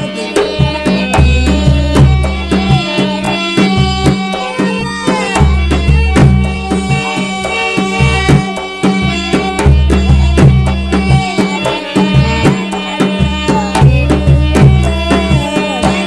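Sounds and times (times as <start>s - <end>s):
gliding melody line: 0.0s - 16.0s
hand drum beating: 0.0s - 16.0s.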